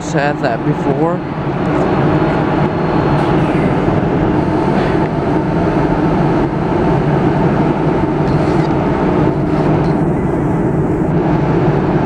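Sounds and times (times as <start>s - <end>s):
electric locomotive humming: 0.0s - 12.0s.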